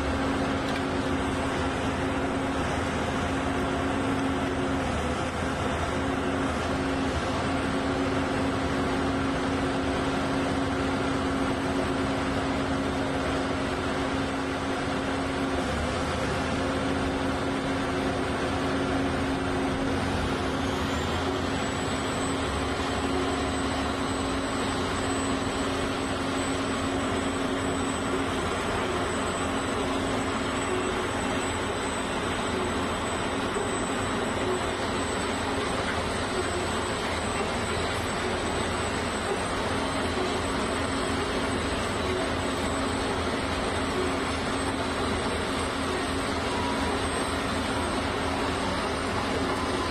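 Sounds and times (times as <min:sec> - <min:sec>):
high whine: 0:00.0 - 0:49.9
piling rig engine hum: 0:00.0 - 0:49.9.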